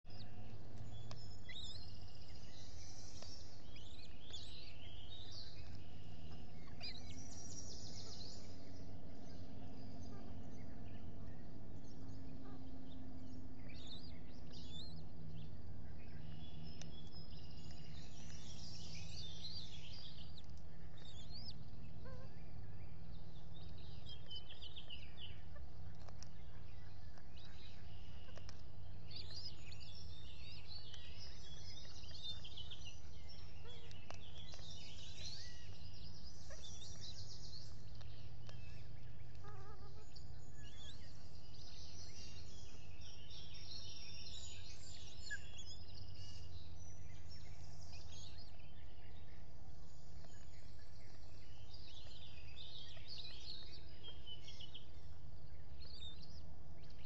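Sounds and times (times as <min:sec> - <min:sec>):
birds chirping and singing: 0:00.0 - 0:57.0
low background rumble: 0:00.1 - 0:57.0.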